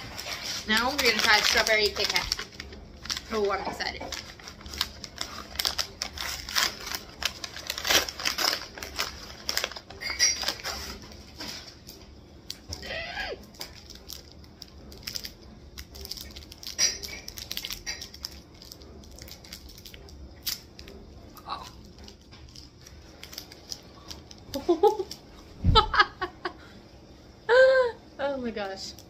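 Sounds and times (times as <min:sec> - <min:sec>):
plastic wrapper crinkling and tearing: 0:00.0 - 0:25.4.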